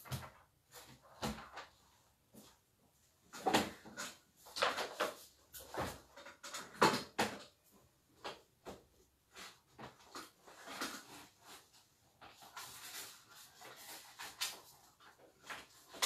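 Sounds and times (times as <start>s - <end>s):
handling knocks and rustles: 0.0s - 16.0s.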